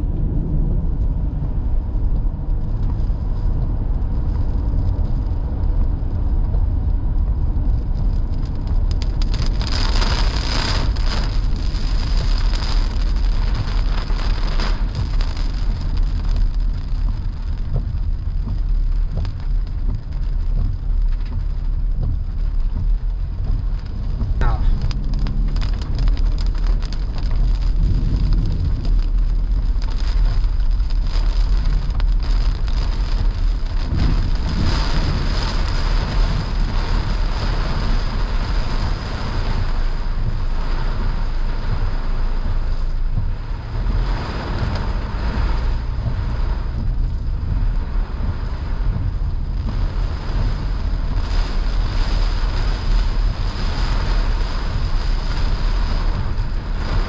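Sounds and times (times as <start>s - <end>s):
car and tyres rumbling: 0.0s - 57.0s
heavy rain on car windshield: 0.0s - 57.0s.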